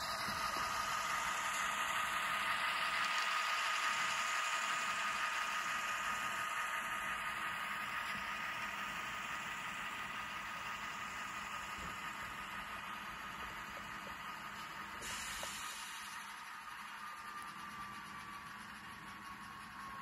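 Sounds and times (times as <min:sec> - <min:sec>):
model diesel engine sound: 0:00.0 - 0:20.0.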